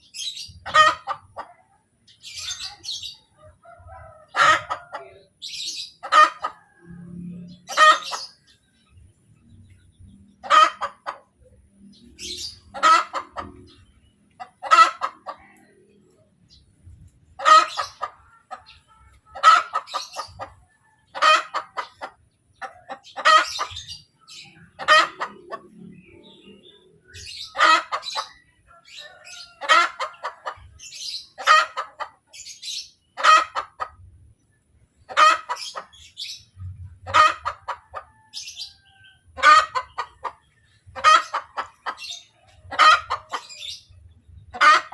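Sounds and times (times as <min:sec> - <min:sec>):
hen clucking quietly: 0:00.1 - 0:08.6, 0:09.4 - 0:34.2, 0:35.0 - 0:44.9
hen cackling: 0:00.2 - 0:01.6, 0:02.2 - 0:08.6, 0:10.3 - 0:15.9, 0:17.3 - 0:34.1, 0:35.0 - 0:44.9.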